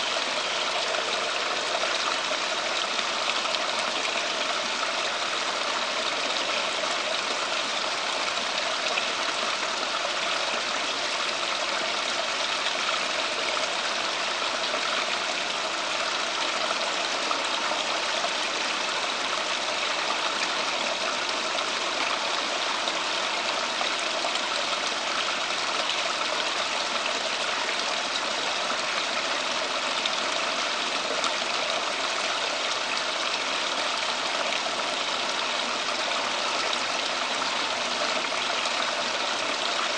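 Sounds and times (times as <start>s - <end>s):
running water from water feature: 0.0s - 39.9s.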